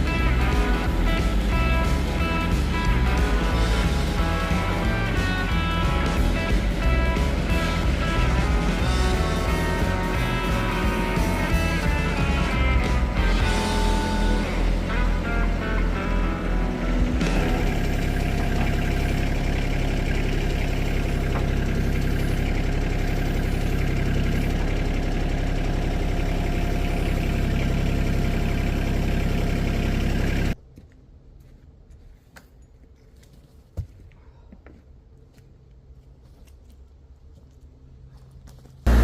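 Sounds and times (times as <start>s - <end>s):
engine running: 0.0s - 30.9s, 35.2s - 39.0s.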